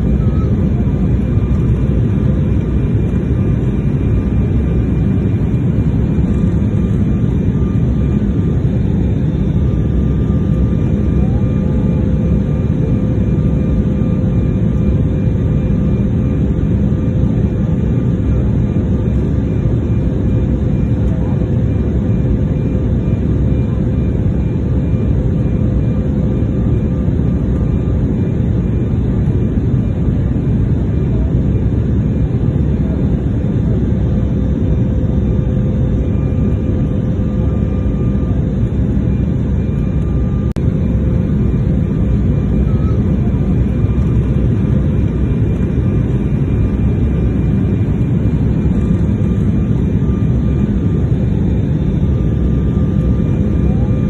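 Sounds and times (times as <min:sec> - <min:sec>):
airliner cabin engine noise: 0:00.0 - 0:54.0.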